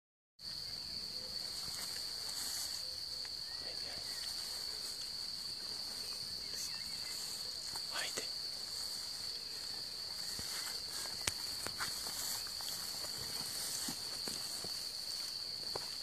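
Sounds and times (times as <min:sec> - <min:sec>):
crickets chirping: 0:00.4 - 0:16.0.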